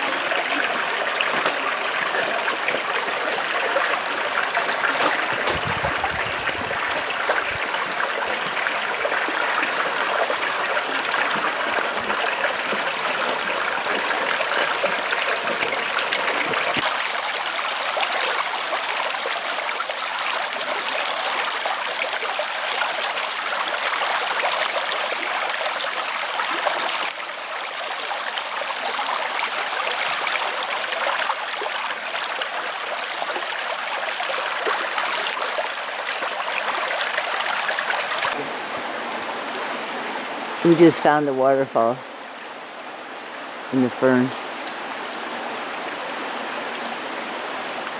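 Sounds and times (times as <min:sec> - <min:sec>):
creek running over pebbles: 0:00.0 - 0:47.9.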